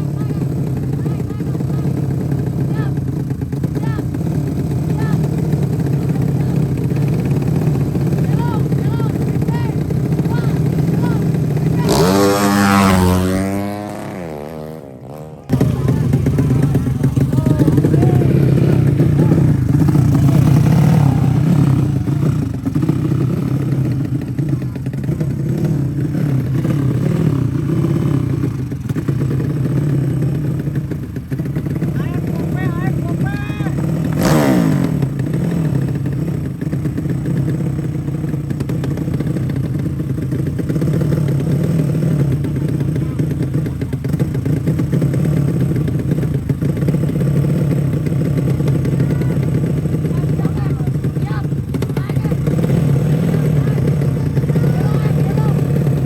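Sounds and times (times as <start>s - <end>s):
racing motorcycle engines revving: 0.0s - 56.0s.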